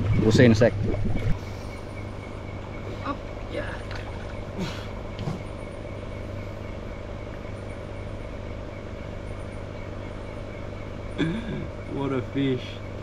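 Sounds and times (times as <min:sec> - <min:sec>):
motor hum with hiss: 0:00.0 - 0:13.0.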